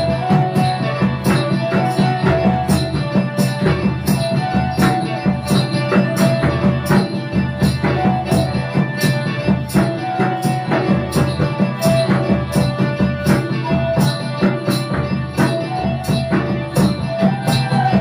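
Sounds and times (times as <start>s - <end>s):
bamboo flute melody: 0.0s - 18.0s
barrel drum beat: 0.0s - 18.0s
harmonium: 0.0s - 18.0s.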